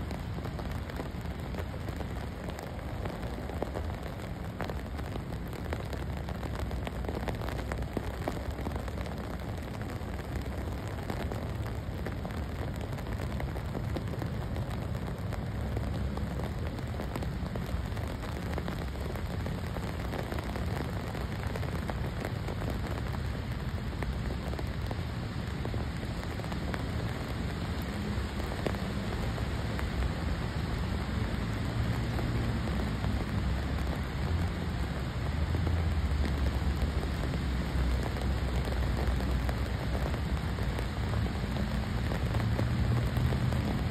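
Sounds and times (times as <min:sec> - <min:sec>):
rain and snow on asphalt: 0:00.0 - 0:43.9.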